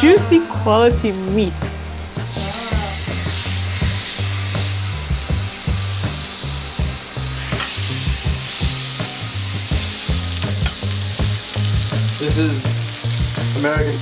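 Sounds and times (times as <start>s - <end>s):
background music with bass beat: 0.0s - 14.0s
meat sizzling on a grill pan: 0.0s - 14.0s.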